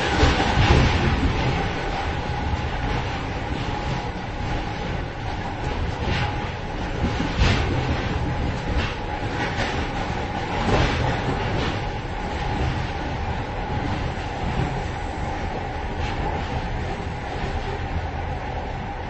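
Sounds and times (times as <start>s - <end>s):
train clanks and rattles: 0.0s - 19.0s
train wheels rumbling on track: 0.0s - 19.0s.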